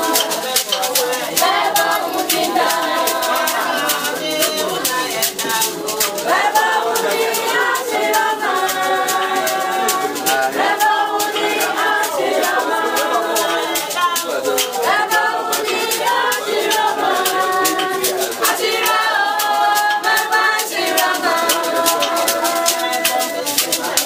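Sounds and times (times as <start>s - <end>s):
shaker rattle: 0.0s - 24.0s
voices singing together: 0.0s - 24.0s.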